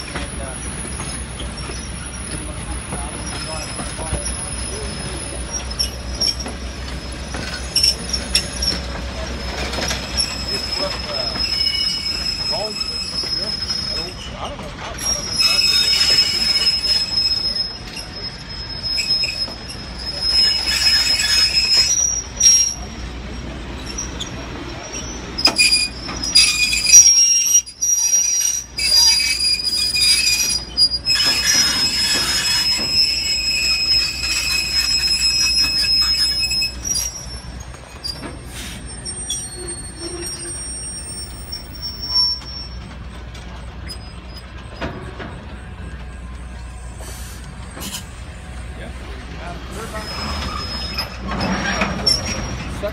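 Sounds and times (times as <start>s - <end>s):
train rumble: 0.0s - 52.9s
train wheels squealing: 0.0s - 52.9s.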